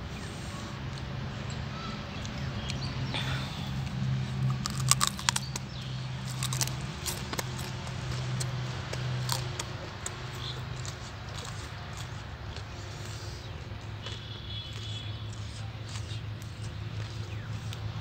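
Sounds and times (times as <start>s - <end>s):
cauliflower crunching: 2.1s - 18.0s.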